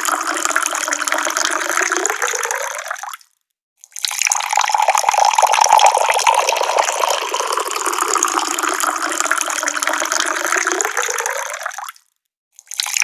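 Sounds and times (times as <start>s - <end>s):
tap water pouring from faucet: 0.0s - 3.2s, 3.9s - 12.0s.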